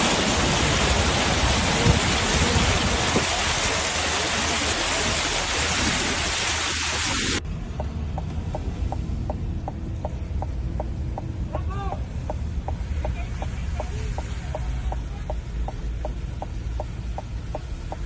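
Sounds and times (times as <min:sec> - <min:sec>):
low hum: 0:00.0 - 0:18.0
water rushing: 0:00.0 - 0:18.0.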